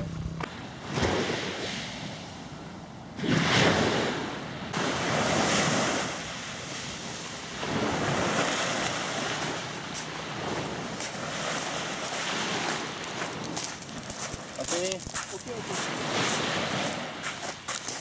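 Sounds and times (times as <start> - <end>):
sea waves breaking on beach: 0.7 - 2.5, 3.2 - 18.0.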